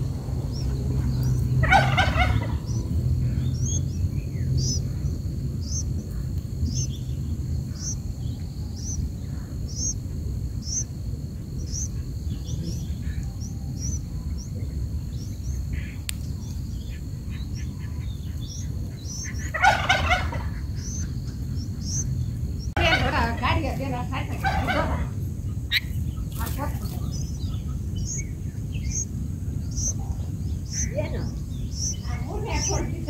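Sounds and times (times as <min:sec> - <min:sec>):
birds chattering: 0:00.0 - 0:33.0
low steady rumble: 0:00.0 - 0:33.0
high bird chirps: 0:00.3 - 0:10.9, 0:11.5 - 0:22.9, 0:25.7 - 0:33.0.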